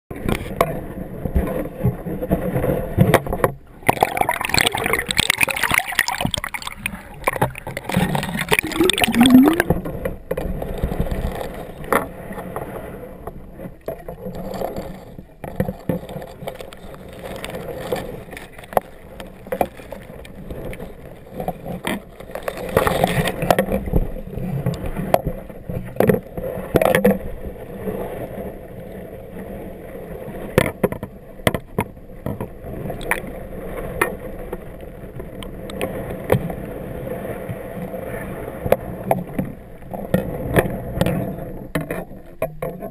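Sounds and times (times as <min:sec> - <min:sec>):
muffled underwater water noise: 0:00.1 - 0:42.9.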